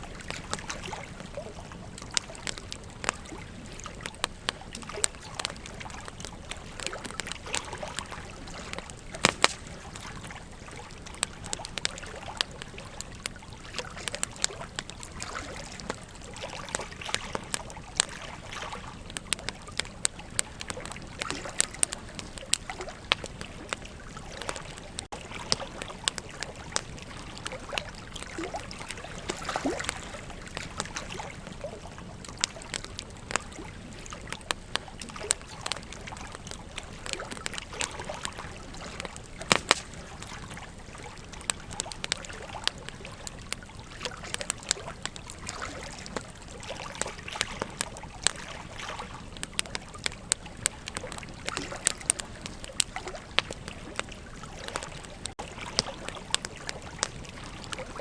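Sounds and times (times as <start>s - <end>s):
campfire crackling and popping: 0.0s - 58.0s
river water flowing: 0.0s - 58.0s.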